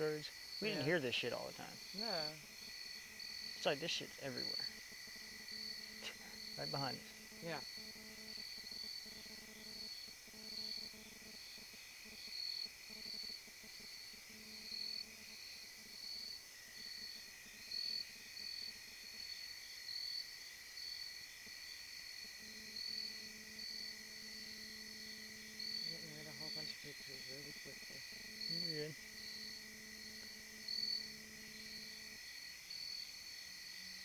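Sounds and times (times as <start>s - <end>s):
insect drone: 0.0s - 34.0s
insects chirping: 0.0s - 34.0s.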